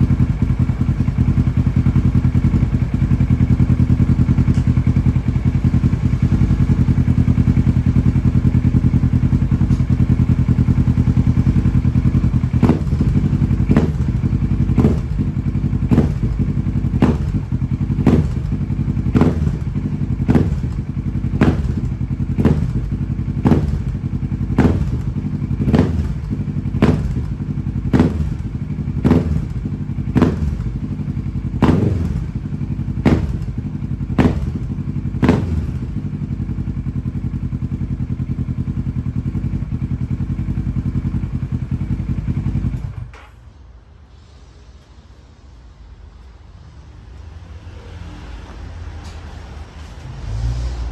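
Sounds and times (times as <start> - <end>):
motorcycle engine revving: 0.0 - 43.3, 47.0 - 50.9.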